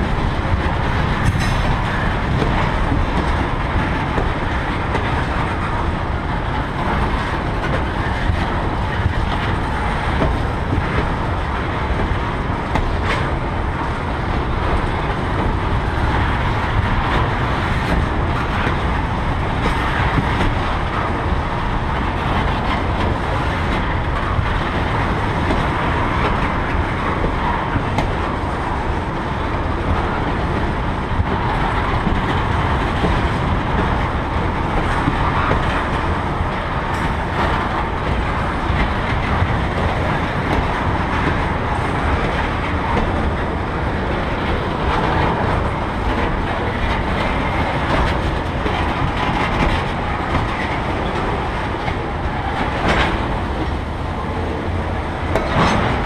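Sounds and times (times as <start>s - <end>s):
steel wheels rumbling on rails: 0.0s - 56.0s.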